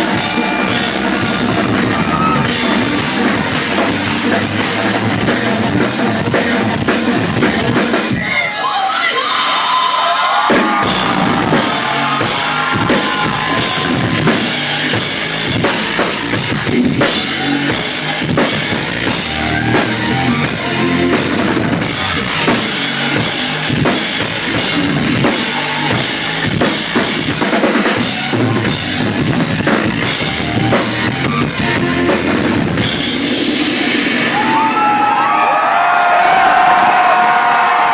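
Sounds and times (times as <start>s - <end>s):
rock drum solo: 0.0s - 8.3s, 9.5s - 37.9s.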